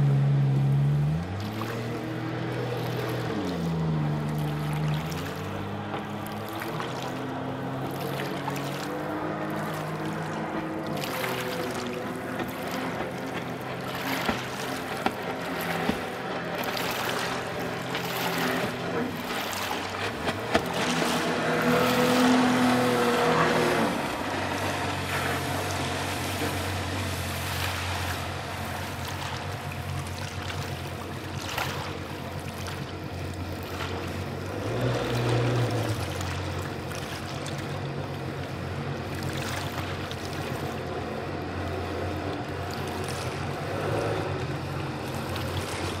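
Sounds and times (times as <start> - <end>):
boat engine drone: 0.0 - 46.0.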